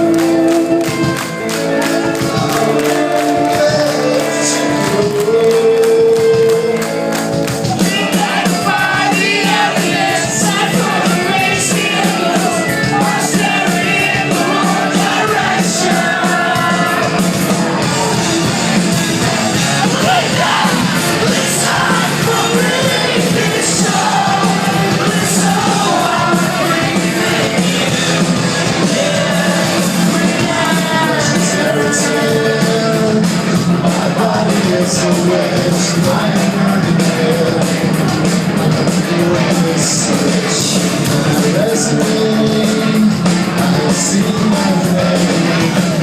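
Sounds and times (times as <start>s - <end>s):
live rock band: 0.0s - 46.0s
sung and shouted vocals: 2.0s - 46.0s.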